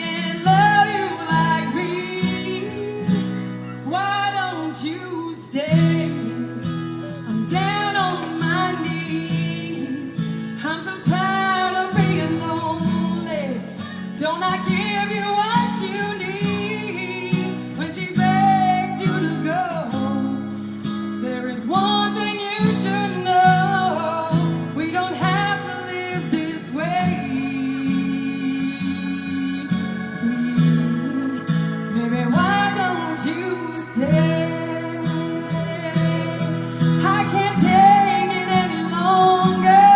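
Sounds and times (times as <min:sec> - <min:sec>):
acoustic guitar: 0:00.0 - 0:39.9
woman singing: 0:00.0 - 0:39.9.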